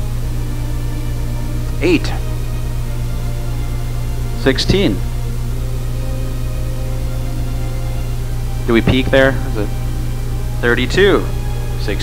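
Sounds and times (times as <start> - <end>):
low drone with held tones: 0.0 - 12.0.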